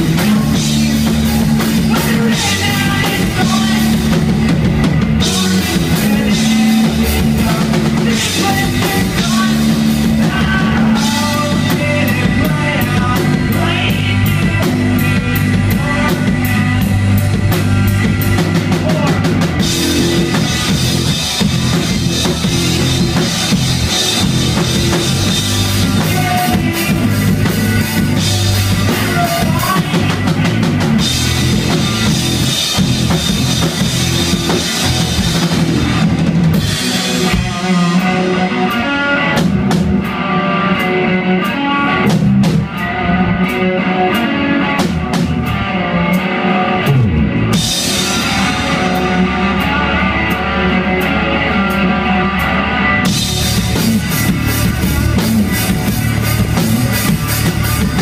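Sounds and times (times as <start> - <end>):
distorted electric guitar: 0.0 - 58.0
drum kit playing: 0.0 - 58.0.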